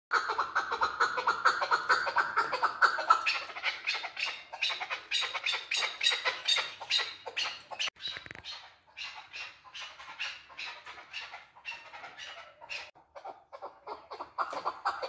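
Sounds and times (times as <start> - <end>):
partridge calling: 0.2 - 15.0.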